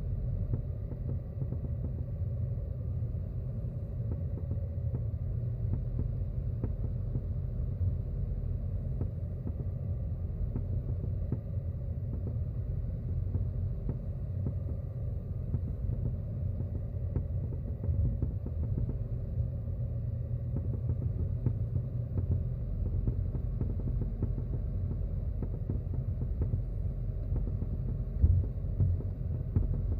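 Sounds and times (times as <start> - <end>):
deep road rumble inside car: 0.0 - 29.9.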